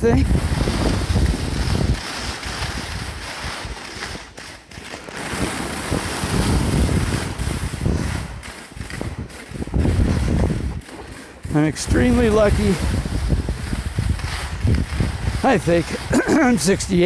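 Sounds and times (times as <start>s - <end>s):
wind buffeting microphone: 0.0s - 4.2s, 5.3s - 17.0s
skis sliding over snow: 0.1s - 17.0s.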